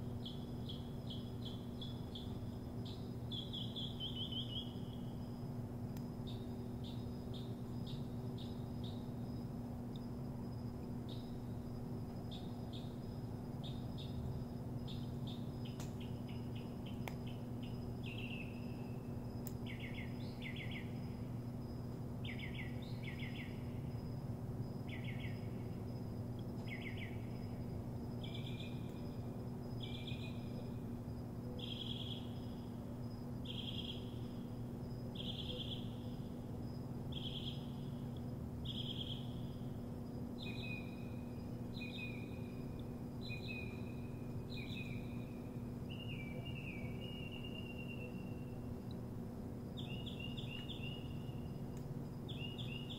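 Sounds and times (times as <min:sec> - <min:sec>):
songbird singing: 0:00.0 - 0:52.9
steady low hum: 0:00.0 - 0:52.9.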